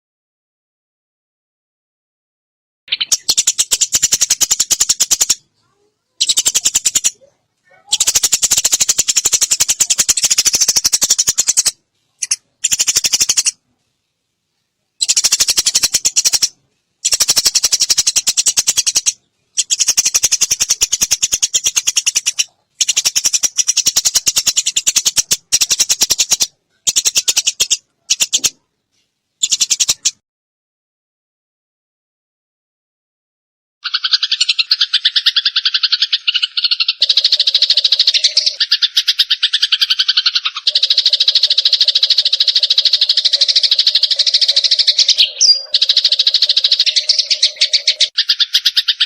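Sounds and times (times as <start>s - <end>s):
sparrows harsh rattling chatter: 2.9s - 13.6s, 15.0s - 30.2s, 33.8s - 49.0s.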